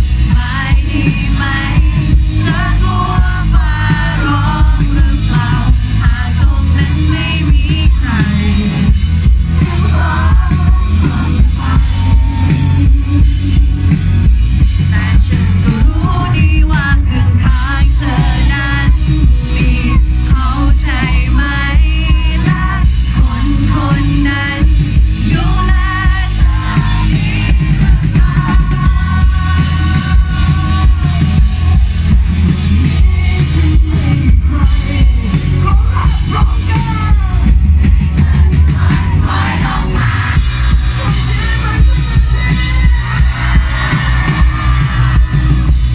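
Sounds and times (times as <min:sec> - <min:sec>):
man singing: 0:00.0 - 0:39.9, 0:40.6 - 0:45.6
rock band playing live: 0:00.0 - 0:45.9.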